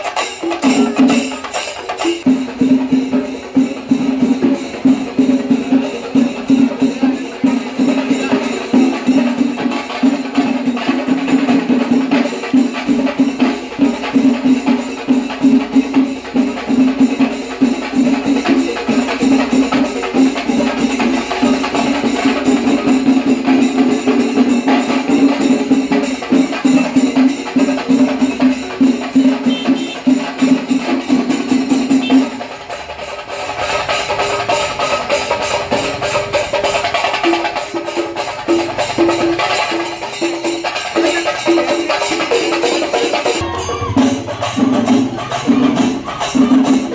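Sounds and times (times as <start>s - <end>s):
fast drum strokes: 0.0s - 46.9s.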